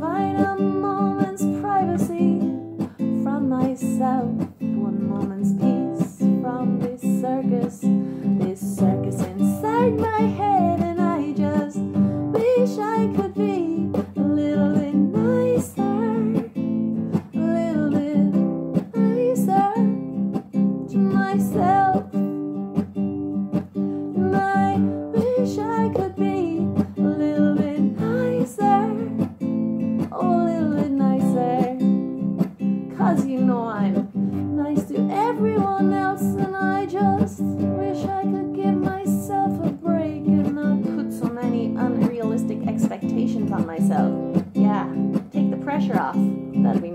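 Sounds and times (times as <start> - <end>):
woman singing wordless melody: 0.0 - 22.4, 24.1 - 46.9
strummed acoustic guitar: 0.0 - 46.9.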